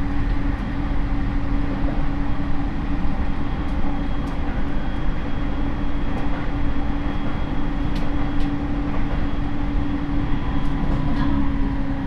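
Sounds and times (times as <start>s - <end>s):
train motor hum: 0.0s - 12.0s
train wheels rumbling on rails: 0.0s - 12.0s.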